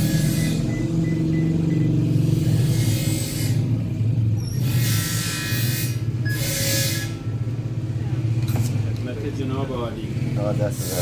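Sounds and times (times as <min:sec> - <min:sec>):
traffic noise: 0:00.0 - 0:11.0
vehicle engine humming: 0:00.0 - 0:11.0.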